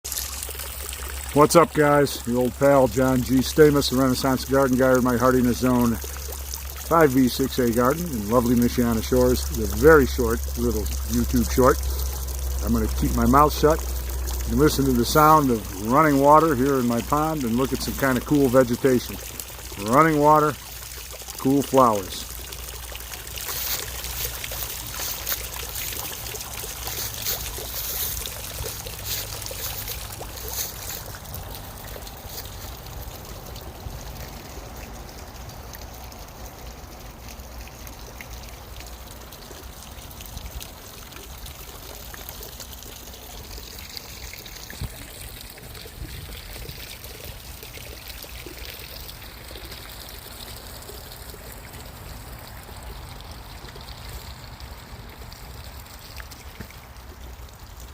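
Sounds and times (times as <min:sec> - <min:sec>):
water trickling in pond: 0:00.0 - 0:57.9.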